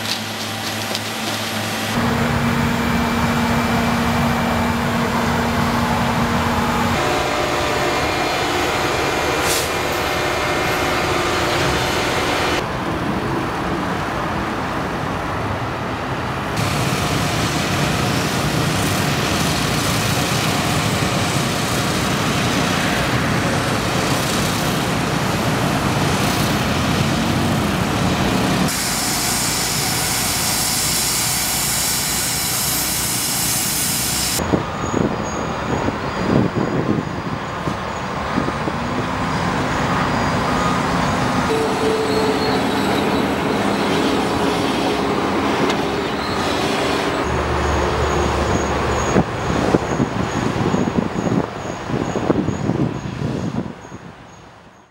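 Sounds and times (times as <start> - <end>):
concrete mixer truck: 0.0 - 12.6, 16.6 - 51.4
motor grader working: 0.0 - 54.2
dump trucks: 0.0 - 54.3.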